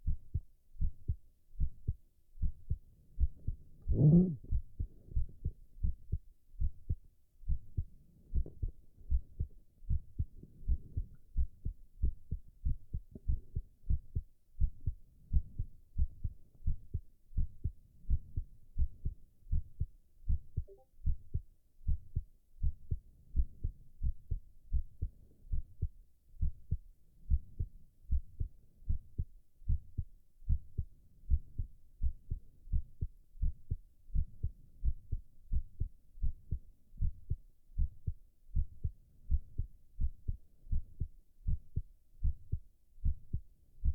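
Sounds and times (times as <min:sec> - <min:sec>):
heartbeat thuds: 0:00.0 - 0:43.9.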